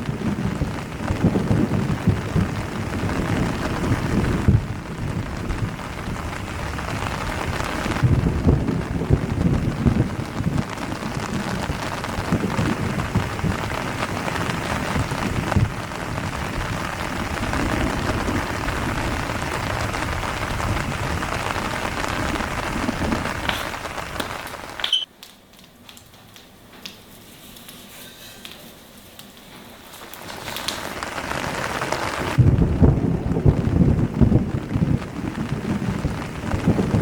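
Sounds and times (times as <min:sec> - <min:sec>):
rain-like noise with low rumble: 0:00.0 - 0:37.0.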